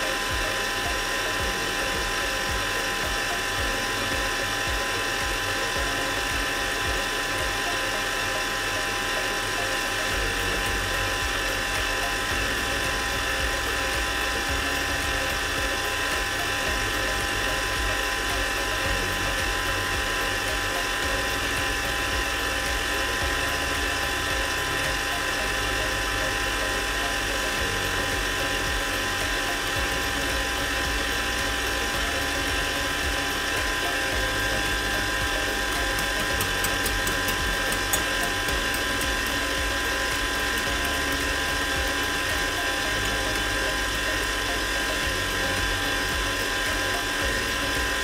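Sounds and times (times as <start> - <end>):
electric mixer whining: 0.0 - 48.0.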